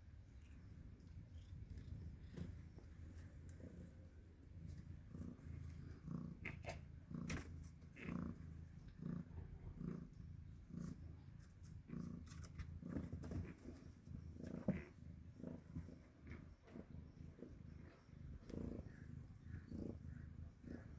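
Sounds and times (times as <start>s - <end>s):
cat purring: 0.0s - 20.9s.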